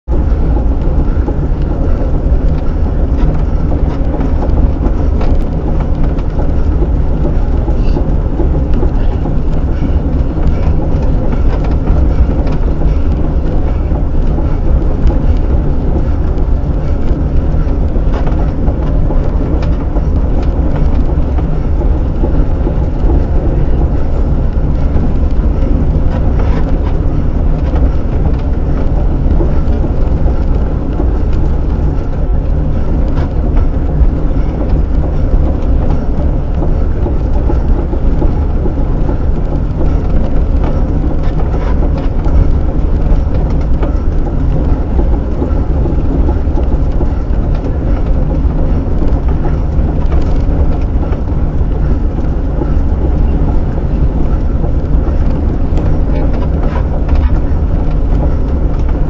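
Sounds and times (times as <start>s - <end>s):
velomobile rumble at speed: 0.0s - 59.0s.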